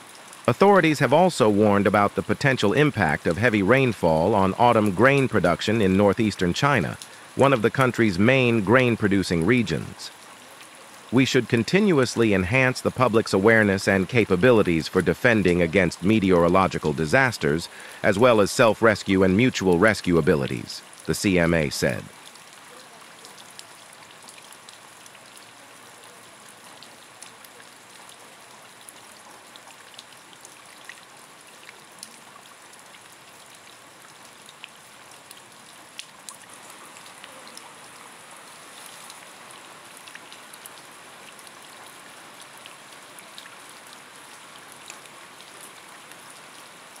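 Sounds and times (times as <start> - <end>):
raindrops ticking: 0.0 - 47.0
steady rain hiss: 0.0 - 47.0.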